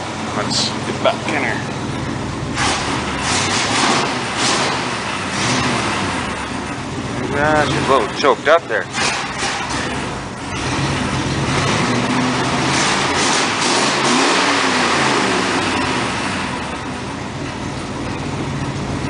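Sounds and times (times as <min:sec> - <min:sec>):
pickup engine revving: 0:00.0 - 0:19.0.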